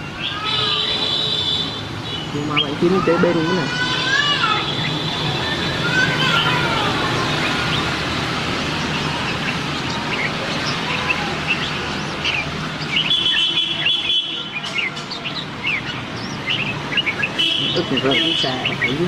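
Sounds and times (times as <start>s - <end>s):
bulbuls chirping and whistling: 0.0s - 19.0s
buzzy bird trill: 2.0s - 19.0s.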